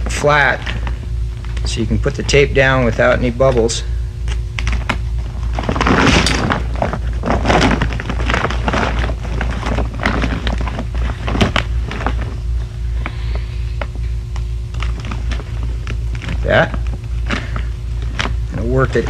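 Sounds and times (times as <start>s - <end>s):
tape rustling and crinkling: 0.0s - 13.2s, 13.8s - 19.0s
low hum: 0.0s - 19.0s.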